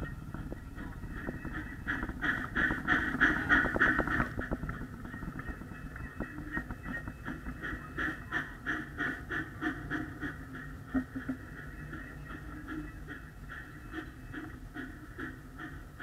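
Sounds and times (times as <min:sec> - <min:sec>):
low running rumble: 0:00.0 - 0:16.0.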